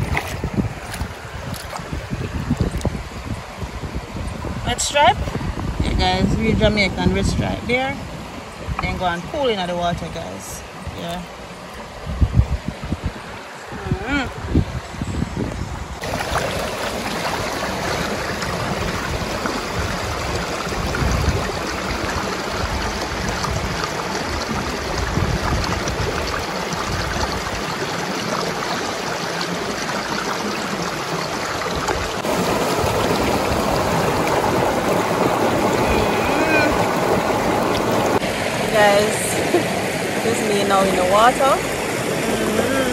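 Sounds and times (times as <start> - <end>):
river water flowing: 0.0 - 5.8, 6.9 - 42.9.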